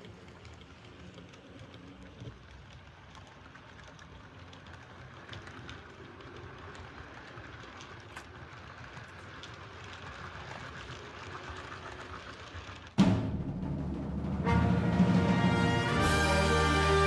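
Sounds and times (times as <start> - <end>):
model train running noise: 0.0 - 13.0, 15.4 - 17.0.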